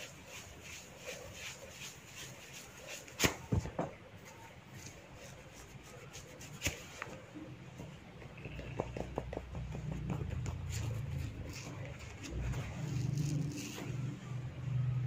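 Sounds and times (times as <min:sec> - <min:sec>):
fingers rubbing through hair: 0:00.0 - 0:03.5, 0:04.2 - 0:14.3.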